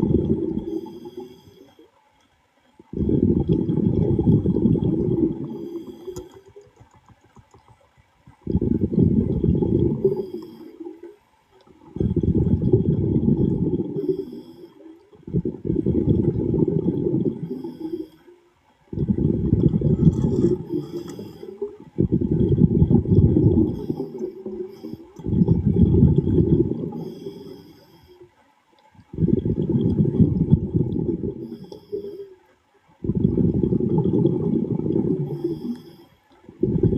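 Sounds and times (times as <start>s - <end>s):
regulator bubbles underwater: 0.0s - 36.9s.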